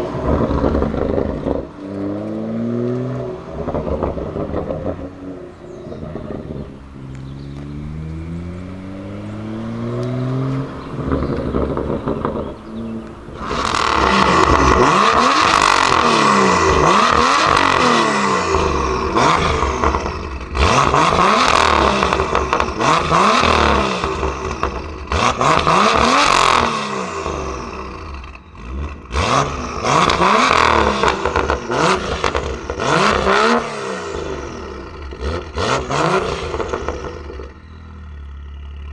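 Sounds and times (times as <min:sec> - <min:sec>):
car engine revving: 0:00.0 - 0:38.9
exhaust cracks: 0:00.0 - 0:38.9.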